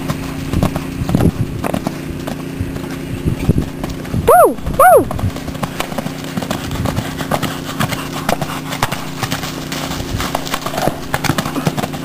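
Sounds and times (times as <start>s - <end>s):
horse hoofbeats on dirt: 0.0s - 12.0s.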